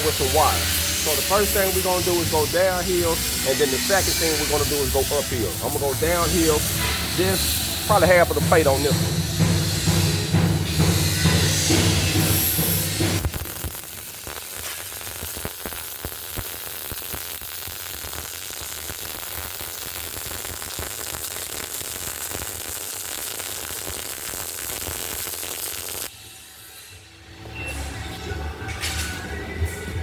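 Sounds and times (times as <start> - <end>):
welding arc crackling: 0.0 - 26.9.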